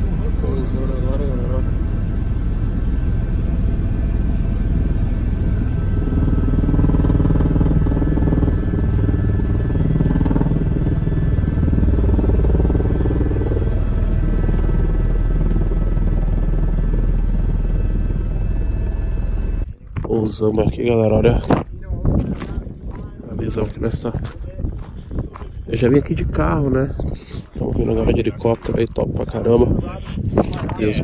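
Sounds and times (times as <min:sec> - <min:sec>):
helicopter rotor and engine drone: 0:00.0 - 0:31.0.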